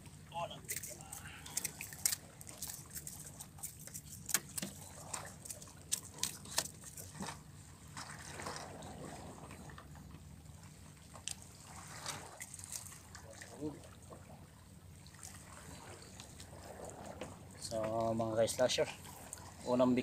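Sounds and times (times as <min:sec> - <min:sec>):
seawater lapping among rocks: 0:00.0 - 0:20.0.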